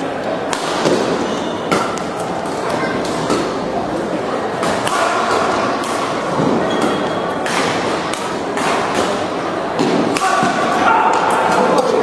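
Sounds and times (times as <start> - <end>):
murmur of spectators: 0.0 - 12.0
rackets hitting shuttlecock: 0.2 - 3.8, 4.5 - 12.0.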